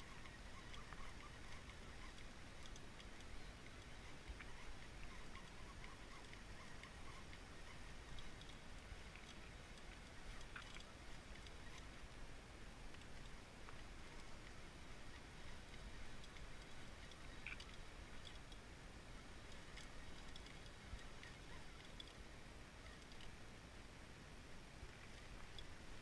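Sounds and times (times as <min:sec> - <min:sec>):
faint small ticks: 0:00.0 - 0:23.4, 0:24.8 - 0:26.0.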